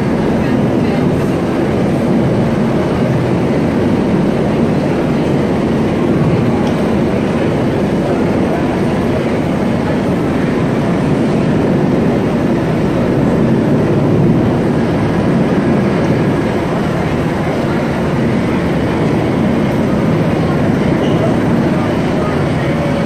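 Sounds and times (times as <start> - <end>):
helicopter hovering overhead: 0.0 - 23.0.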